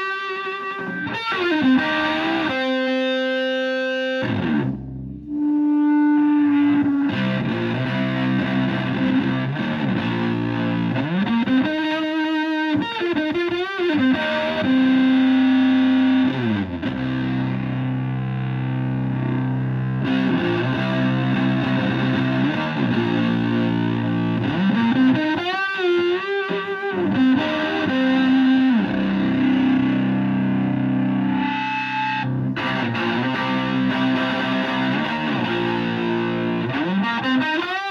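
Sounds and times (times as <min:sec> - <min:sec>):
overdriven electric guitar lead: 0:00.0 - 0:37.9.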